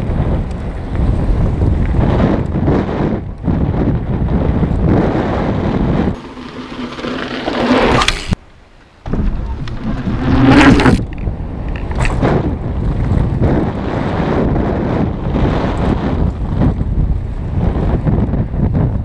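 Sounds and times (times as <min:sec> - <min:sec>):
bike tyres whooshing: 0:00.0 - 0:08.4, 0:09.1 - 0:19.0
wind buffeting microphone: 0:00.0 - 0:08.4, 0:09.0 - 0:19.0.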